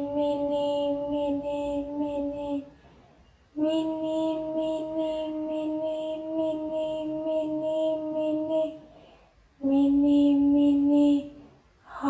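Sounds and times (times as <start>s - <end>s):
high voice chanting: 0.0s - 2.7s, 3.6s - 8.9s, 9.6s - 12.0s.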